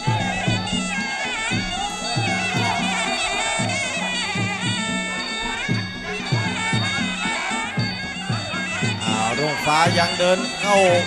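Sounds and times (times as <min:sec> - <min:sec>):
hand drums beating: 0:00.0 - 0:11.0
oboe wavering melody: 0:00.0 - 0:11.0.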